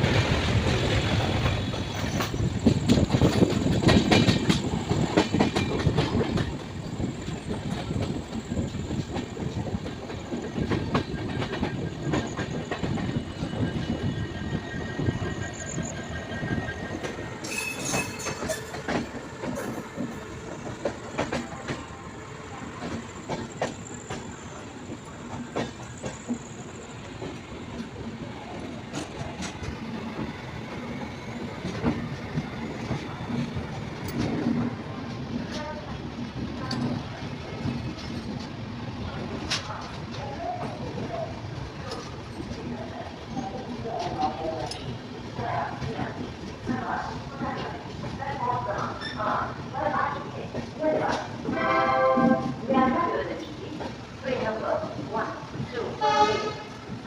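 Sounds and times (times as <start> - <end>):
train rumble: 0.0 - 57.0
wheels clacking over rail joints: 0.0 - 57.0.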